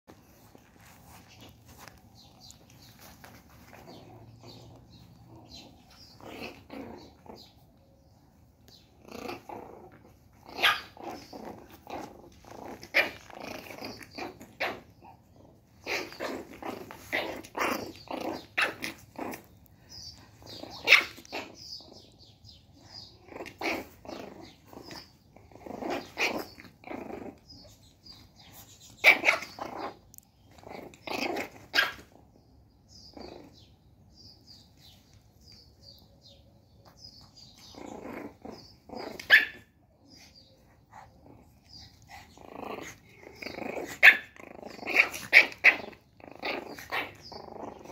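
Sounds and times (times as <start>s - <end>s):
puppy growling and yapping: 0.2s - 7.8s, 8.6s - 35.5s, 36.8s - 47.9s.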